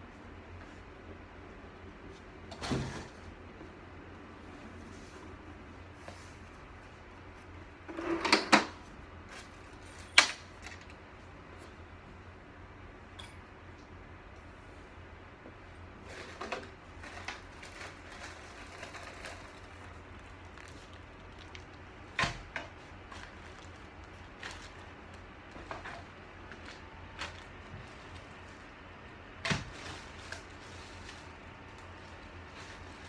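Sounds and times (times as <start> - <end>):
steady low hum: 0.0 - 8.0, 8.7 - 33.0.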